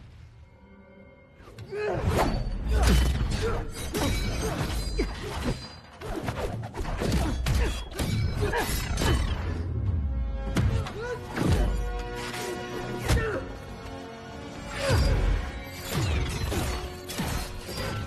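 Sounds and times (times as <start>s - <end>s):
film score music: 0.0s - 18.0s.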